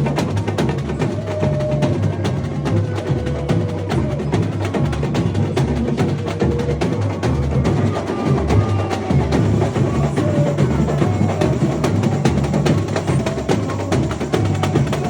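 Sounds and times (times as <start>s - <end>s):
fast clicking rattling percussion: 0.0s - 15.0s.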